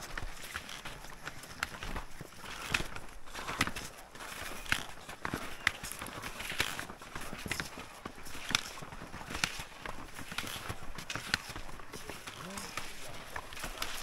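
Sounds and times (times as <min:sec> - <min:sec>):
continuous rustle: 0:00.0 - 0:14.0.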